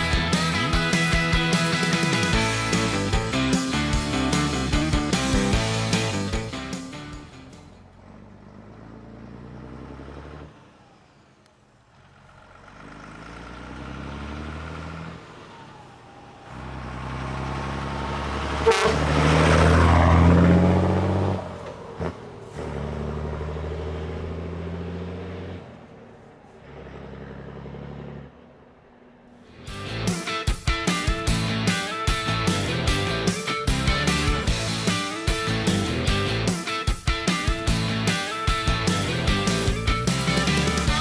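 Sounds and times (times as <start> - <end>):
diesel truck accelerating: 0.0 - 41.0.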